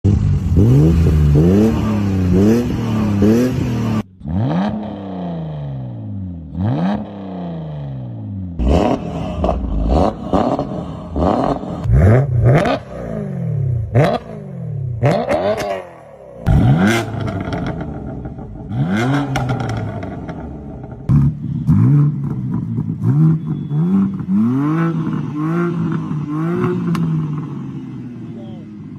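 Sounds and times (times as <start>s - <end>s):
car engine revving: 0.1s - 28.5s.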